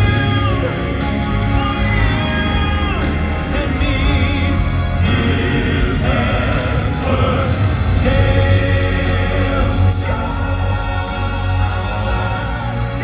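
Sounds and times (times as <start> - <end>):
band playing: 0.0 - 13.0
voices singing: 0.0 - 13.0.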